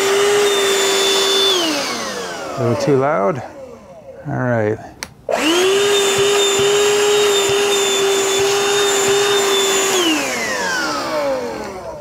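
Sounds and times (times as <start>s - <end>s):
hand vacuum motor whine: 0.0s - 4.2s, 5.3s - 12.0s.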